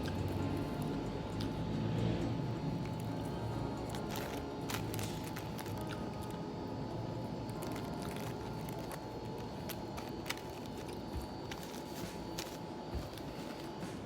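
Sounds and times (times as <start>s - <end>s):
restaurant room noise: 0.0s - 14.0s.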